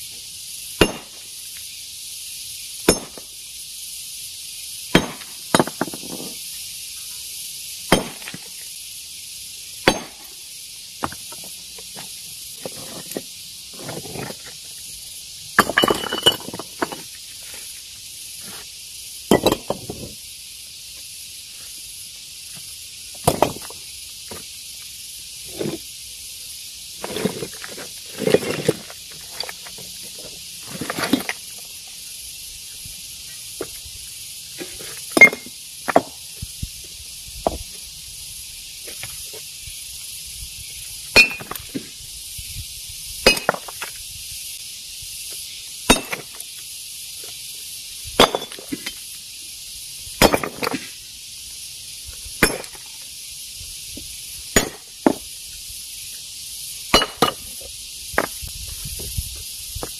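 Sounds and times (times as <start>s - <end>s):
steady high hiss: 0.0s - 59.9s.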